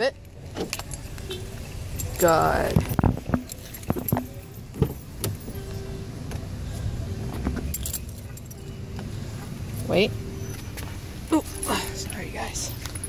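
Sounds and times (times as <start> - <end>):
light metallic jingling: 0.0 - 6.5, 7.3 - 13.0.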